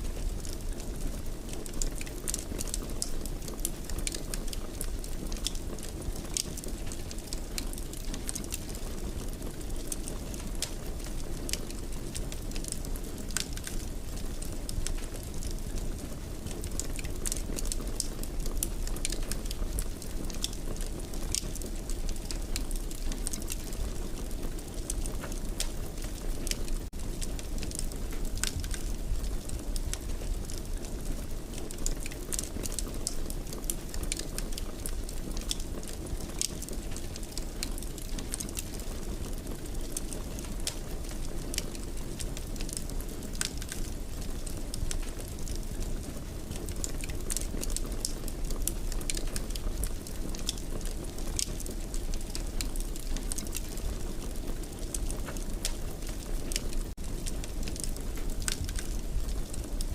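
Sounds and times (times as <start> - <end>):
fire crackling: 0.0 - 59.9.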